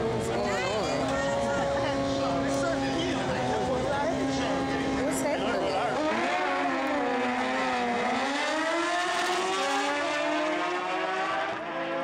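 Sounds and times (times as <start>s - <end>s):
motorcycles accelerating hard: 0.0s - 12.0s.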